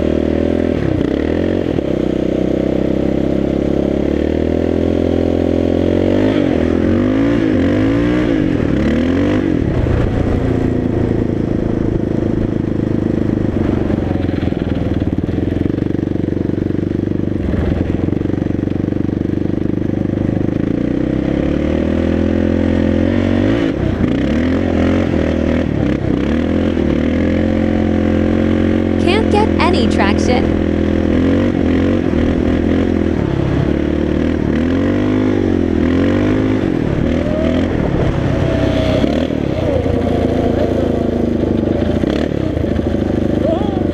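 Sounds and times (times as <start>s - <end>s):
atv engine revving: 0.0s - 29.0s, 30.5s - 43.9s.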